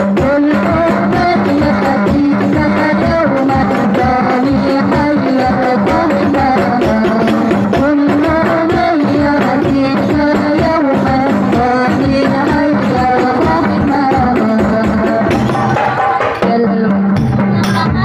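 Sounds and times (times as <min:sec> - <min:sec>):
hand drum rhythm: 0:00.0 - 0:18.0
women singing through microphones: 0:00.0 - 0:18.0.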